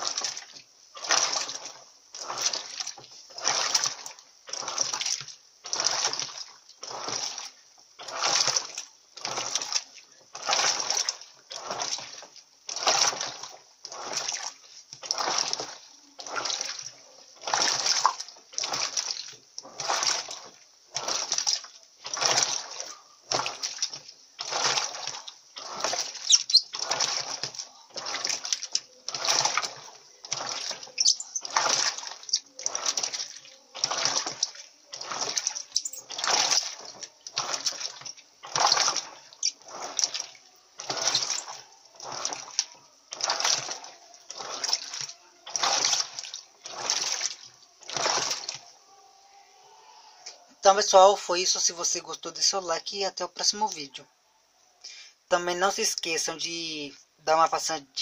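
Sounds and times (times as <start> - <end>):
rhythmic swishing splashes: 0.0 - 48.8
washing machine agitating: 0.0 - 48.9, 50.6 - 54.0, 55.3 - 58.0.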